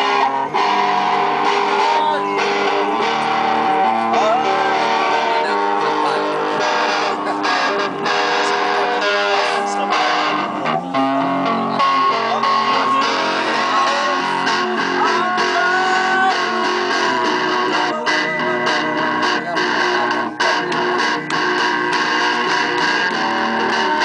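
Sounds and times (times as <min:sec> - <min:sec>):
electric guitar through amplifier: 0:00.0 - 0:24.0.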